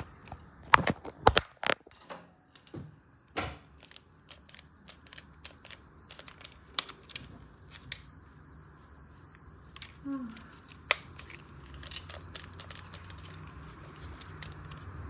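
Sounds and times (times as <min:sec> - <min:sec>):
faint steady high tone: 0:02.0 - 0:15.0.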